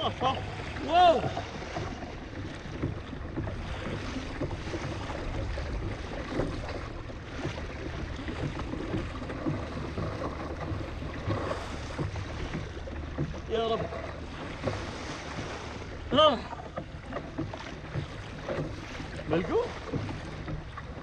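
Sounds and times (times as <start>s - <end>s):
waves slapping and splashing: 0.0s - 21.0s.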